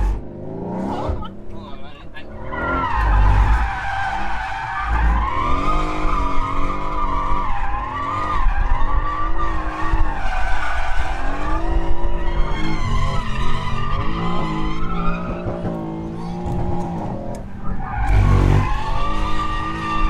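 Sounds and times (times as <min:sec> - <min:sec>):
car engine revving: 0:00.0 - 0:01.6, 0:02.3 - 0:20.0.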